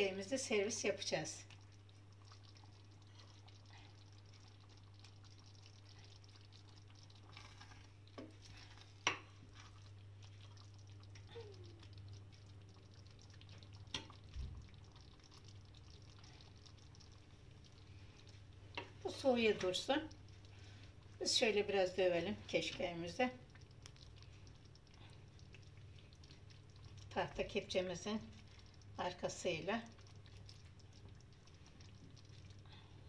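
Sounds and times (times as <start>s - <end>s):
spoon stirring squelchy wheat: 0.1s - 33.0s.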